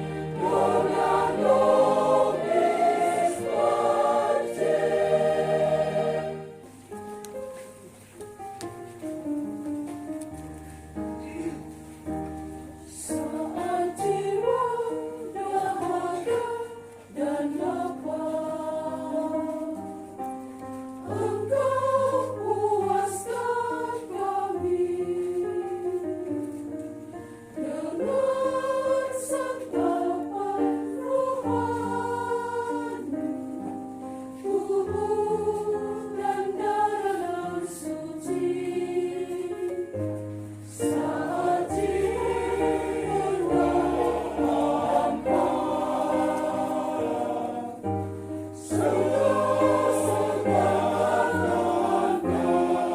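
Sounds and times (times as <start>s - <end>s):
choir singing a hymn: 0.0s - 7.0s, 11.2s - 52.9s.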